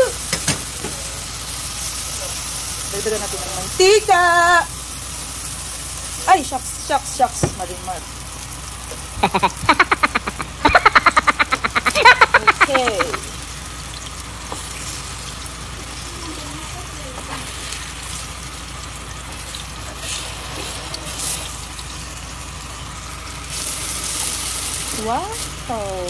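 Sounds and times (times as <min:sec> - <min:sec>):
oil sizzling in a pan: 0:00.0 - 0:26.0.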